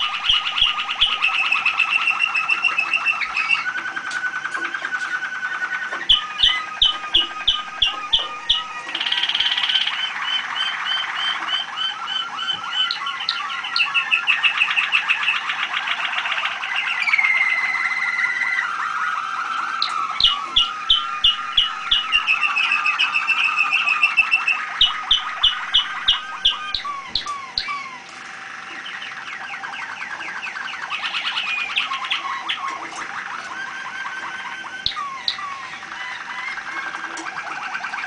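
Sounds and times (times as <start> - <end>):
canary trilling song: 0.0 - 38.0
sharp repeated bird notes: 0.0 - 38.0.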